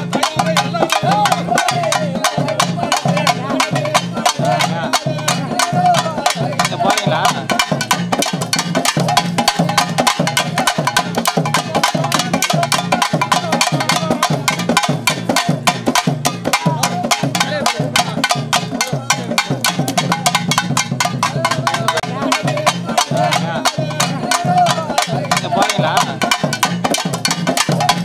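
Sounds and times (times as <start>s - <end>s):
rapid drumming: 0.0s - 28.0s.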